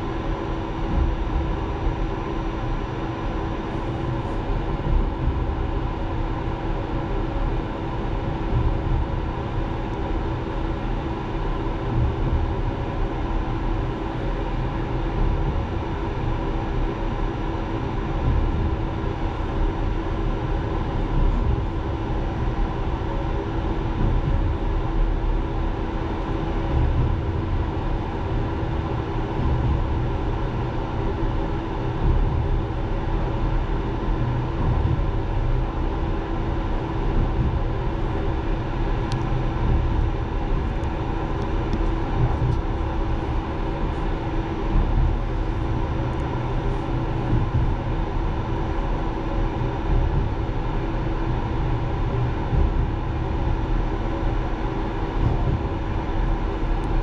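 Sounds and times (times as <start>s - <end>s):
constant hum: 0.0s - 57.0s
train wheels rumbling on rail: 0.0s - 57.0s.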